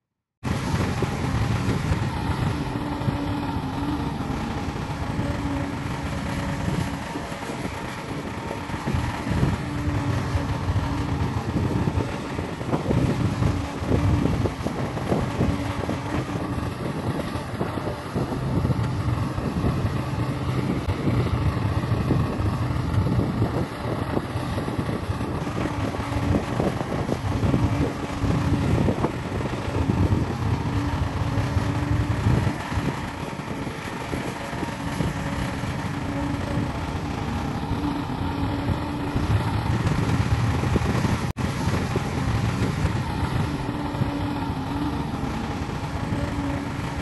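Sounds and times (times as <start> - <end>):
diesel engines under load: 0.4 - 47.0.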